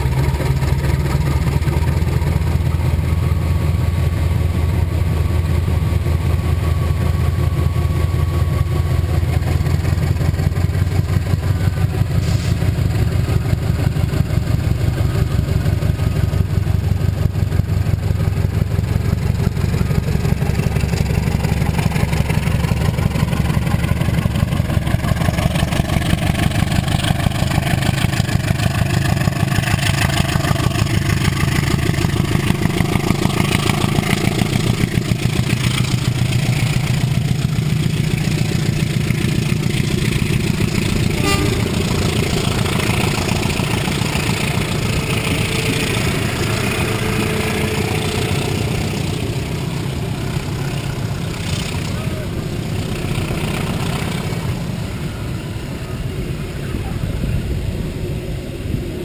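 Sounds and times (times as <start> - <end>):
passenger train rolling past: 0.0 - 59.0.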